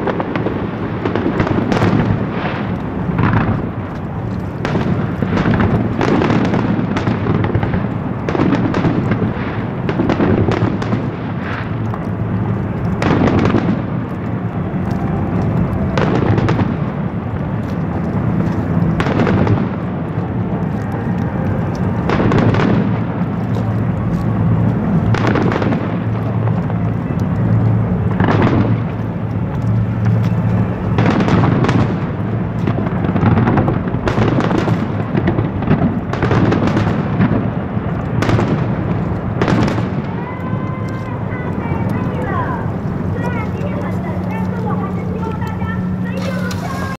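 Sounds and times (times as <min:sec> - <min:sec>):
fireworks rumble and crackle: 0:00.0 - 0:46.9.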